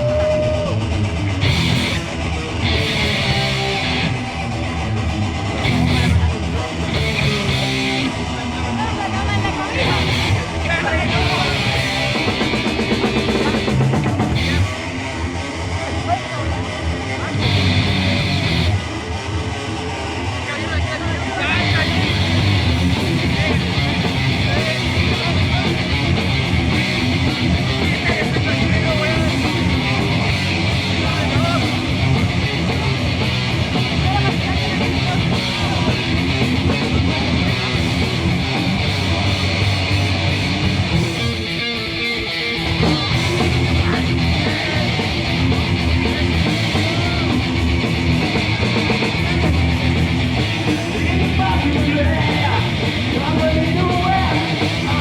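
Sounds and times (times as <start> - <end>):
bass guitar: 0.0 - 55.0
distorted electric guitars: 0.0 - 55.0
drums: 0.0 - 55.0.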